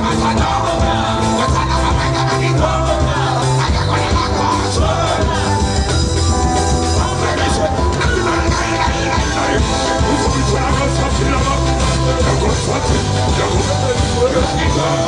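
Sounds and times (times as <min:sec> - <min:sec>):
loud band music: 0:00.0 - 0:15.0
person singing: 0:00.0 - 0:15.0.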